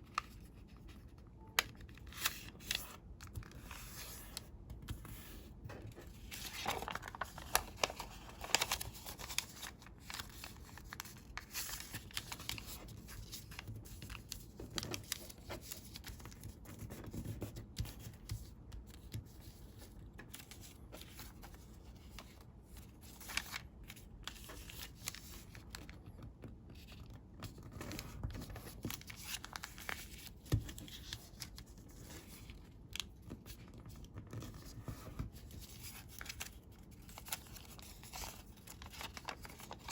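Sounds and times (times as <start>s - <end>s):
paper being folded and creased: 0.0s - 39.9s.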